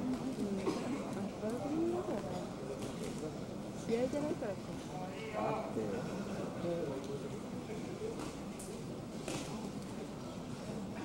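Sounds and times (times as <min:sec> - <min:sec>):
crowd murmur: 0:00.0 - 0:11.0.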